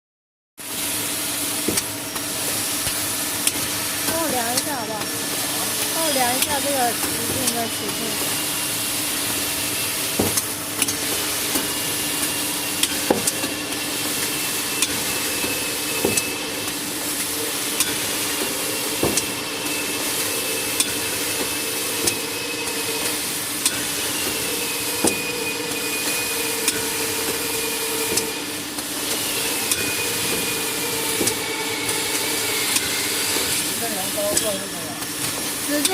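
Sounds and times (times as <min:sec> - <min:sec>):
cutting machine hiss and hum: 0:00.6 - 0:35.9.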